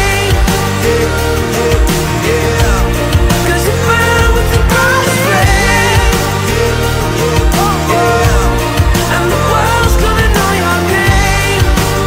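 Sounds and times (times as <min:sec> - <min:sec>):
pop song with bass and drums: 0:00.0 - 0:12.0.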